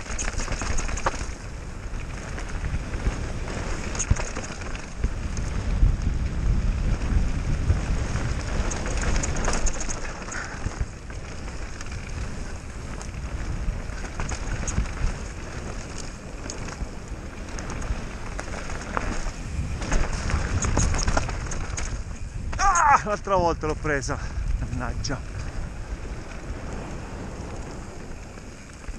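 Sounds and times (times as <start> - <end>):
bike clattering and rattling: 0.0 - 28.9
tyres crackling over dirt: 0.0 - 28.9
wind buffeting microphone: 0.0 - 28.9.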